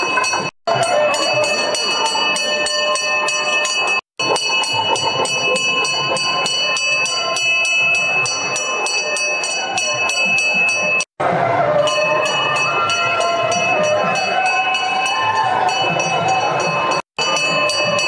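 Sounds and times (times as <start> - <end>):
bells rung rapidly: 0.0 - 18.0.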